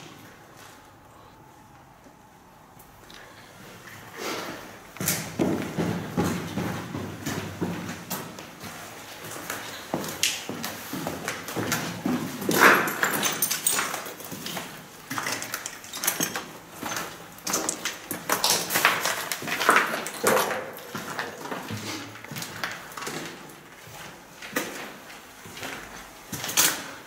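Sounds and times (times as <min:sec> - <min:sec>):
footsteps crunching over rubble: 0:02.8 - 0:27.0.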